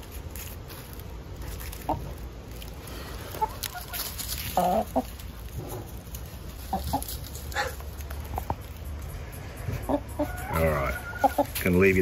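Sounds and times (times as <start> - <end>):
hens clucking: 1.5 - 12.0.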